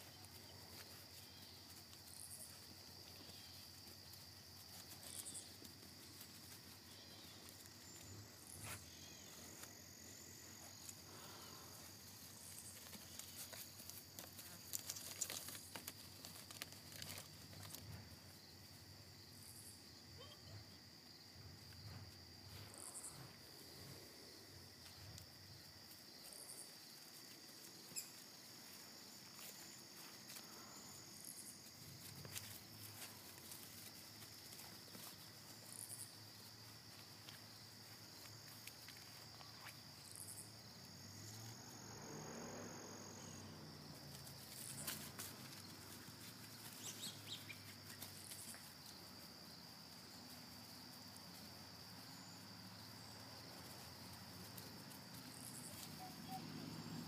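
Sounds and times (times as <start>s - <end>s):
insect chirring: 0.0s - 20.4s, 22.6s - 57.0s.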